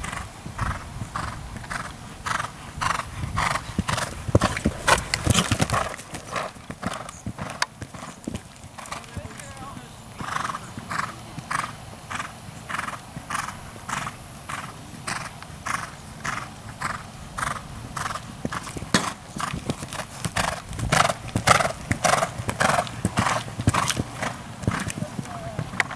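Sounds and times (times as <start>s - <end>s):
horse hoofbeats on soft ground: 0.0s - 25.9s.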